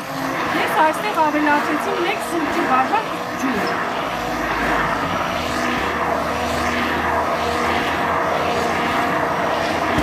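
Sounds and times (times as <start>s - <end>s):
immersion blender motor hum: 0.0s - 10.0s.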